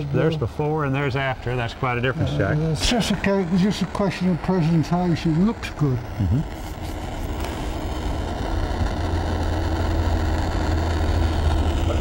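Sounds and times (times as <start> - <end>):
propane torch burning: 0.0 - 12.0.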